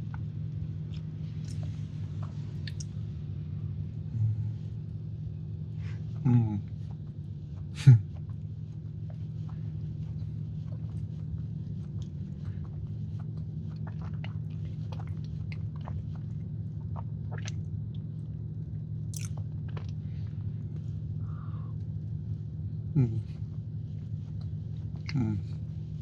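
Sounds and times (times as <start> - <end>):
low hum: 0.0 - 26.0
person chewing soft cookie: 0.0 - 26.0.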